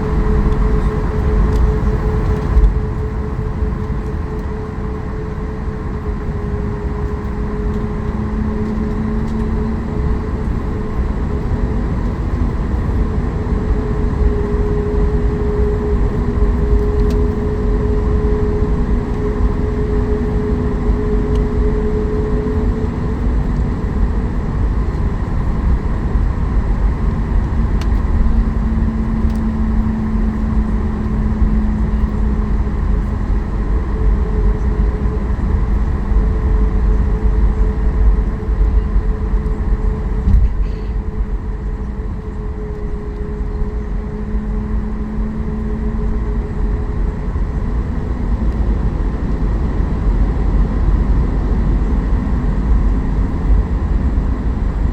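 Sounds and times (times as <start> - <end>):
aircraft cabin engine rumble: 0.0 - 54.9.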